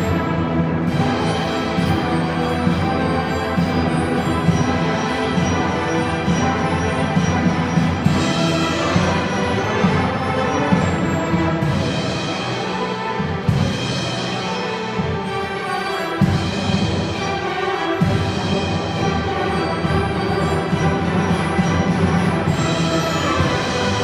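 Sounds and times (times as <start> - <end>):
orchestra playing sustained chords: 0.0 - 24.0
timpani strokes: 0.0 - 24.0.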